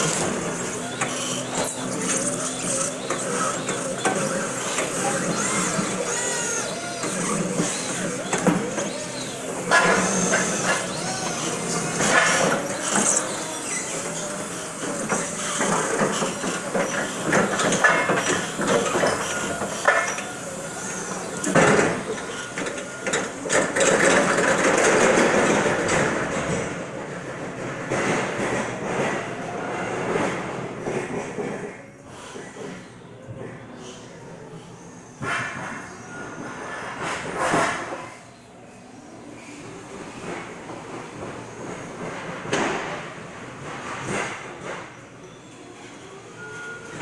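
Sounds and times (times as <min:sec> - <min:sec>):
reach truck mechanical noise: 0:00.0 - 0:47.0.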